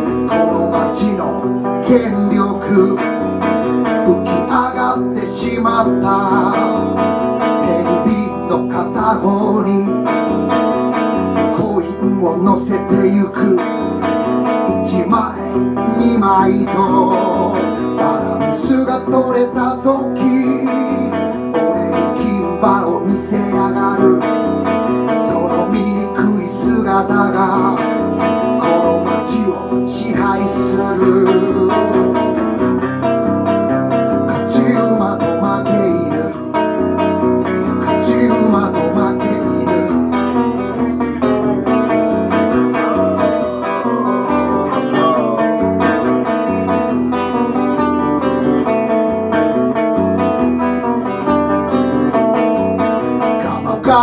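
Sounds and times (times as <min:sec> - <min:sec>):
electric guitar strumming: 0:00.0 - 0:54.0
man singing: 0:00.0 - 0:54.0.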